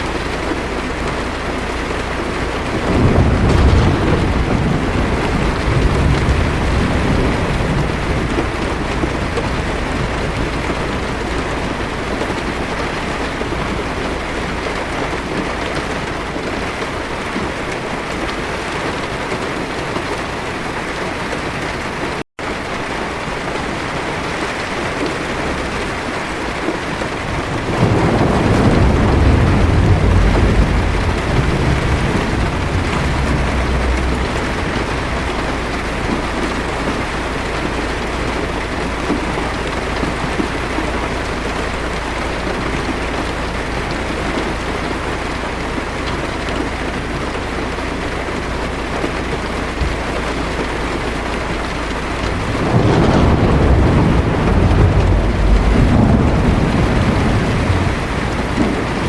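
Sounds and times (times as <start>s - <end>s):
thunder rumbling: 0.0s - 22.2s, 22.9s - 59.0s
heavy rain on car roof: 0.0s - 59.0s.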